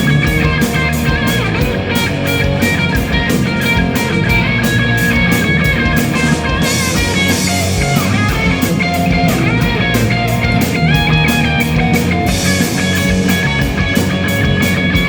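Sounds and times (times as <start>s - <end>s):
cymbals keeping steady beat: 0.0s - 15.0s
electric guitar bending in pitch: 0.0s - 15.0s
rock band playing live: 0.0s - 15.0s.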